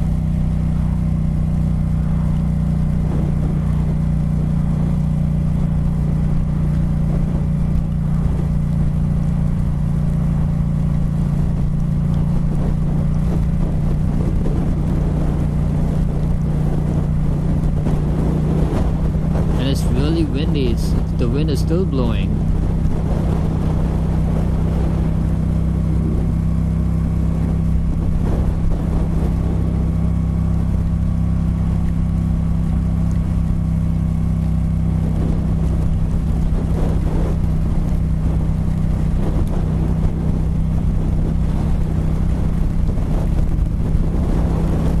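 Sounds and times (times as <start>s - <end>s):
motorcycle engine running: 0.0s - 45.0s
wind rushing over microphone: 0.0s - 45.0s.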